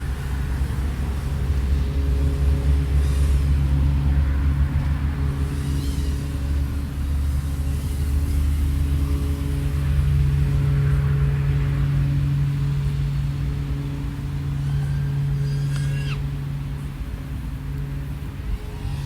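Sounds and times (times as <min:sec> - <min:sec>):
drone motors humming: 0:00.2 - 0:19.0.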